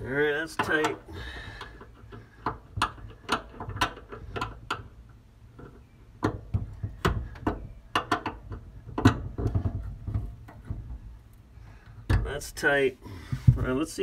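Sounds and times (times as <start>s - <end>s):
metal hardware clicks and knocks: 0.0s - 12.6s.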